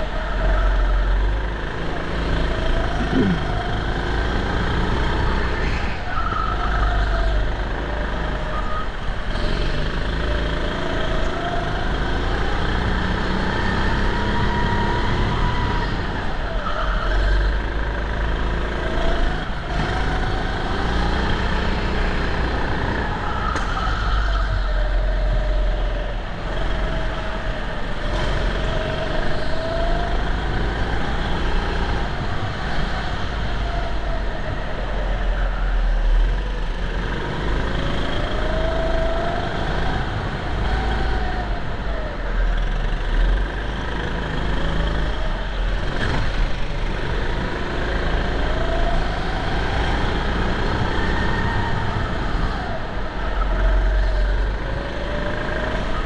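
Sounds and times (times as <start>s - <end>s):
go-kart motor racing: 0.0s - 56.0s.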